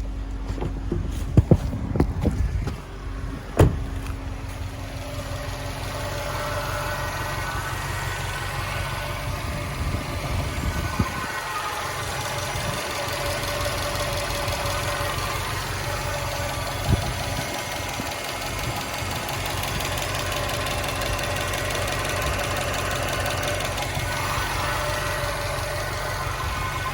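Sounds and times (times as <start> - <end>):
car engine knocking: 0.0 - 26.9.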